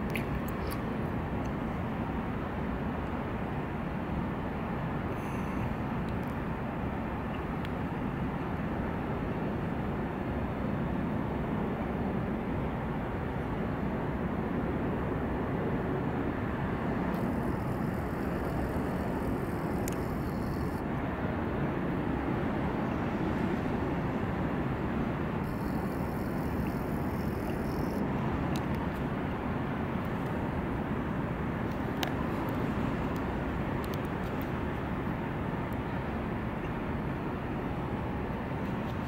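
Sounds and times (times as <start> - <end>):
low urban rumble: 0.0 - 39.0.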